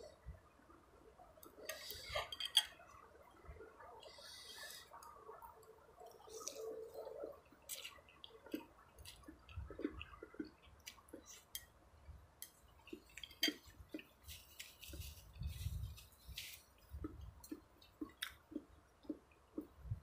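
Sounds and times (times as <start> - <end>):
chewing and wet mouth sounds: 1.4 - 11.8, 12.4 - 20.0.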